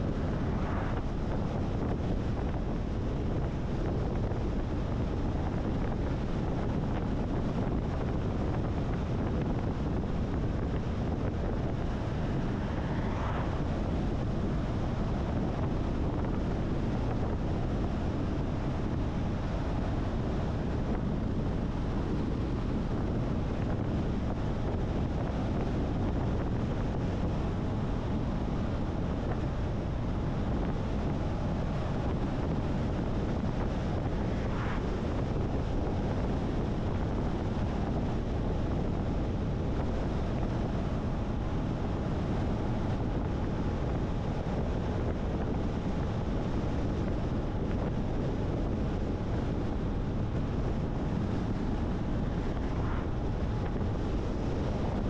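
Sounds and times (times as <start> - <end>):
car road rumble: 0.0 - 55.0.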